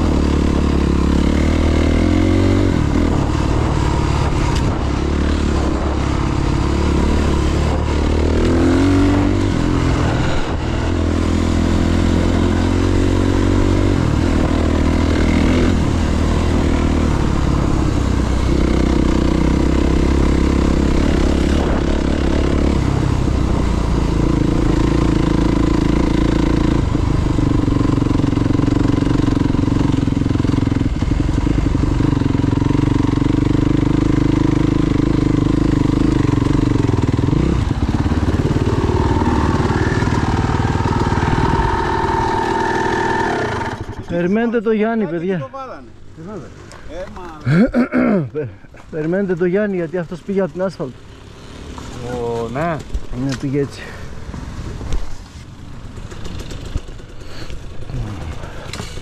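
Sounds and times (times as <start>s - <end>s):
motorcycle engine revving: 0.0s - 45.3s, 48.7s - 59.0s.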